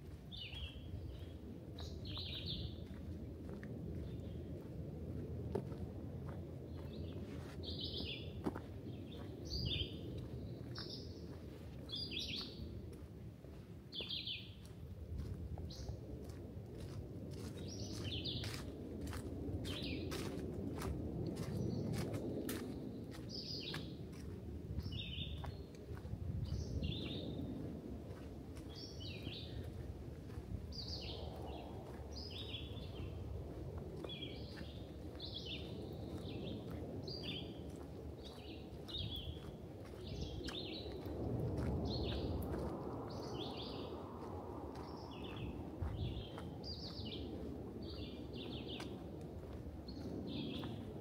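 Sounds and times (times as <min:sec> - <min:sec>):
songbird singing: 0:00.0 - 0:05.8, 0:06.7 - 0:51.0
low outdoor rumble: 0:00.0 - 0:51.0.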